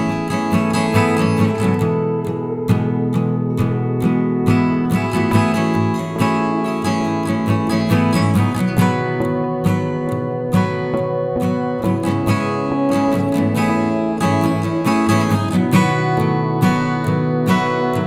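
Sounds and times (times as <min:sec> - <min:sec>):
strummed acoustic guitar music: 0:00.0 - 0:18.0.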